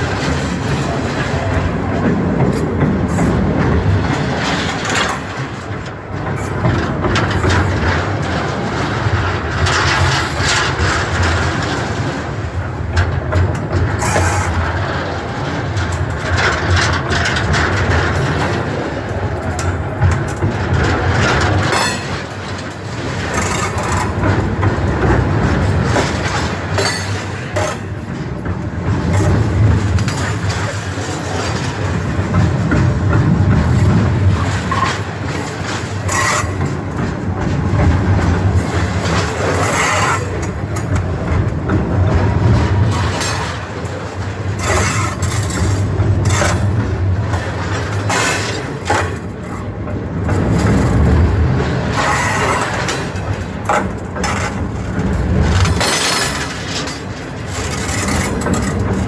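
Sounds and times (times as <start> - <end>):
train cars rumbling and rattling: 0.0 - 59.0
wheels clacking over rail: 0.0 - 59.0.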